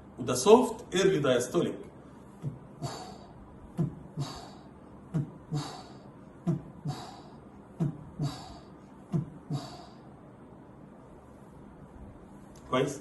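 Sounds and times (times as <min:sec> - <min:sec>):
soft high hissing heart murmur: 0:02.0 - 0:13.0.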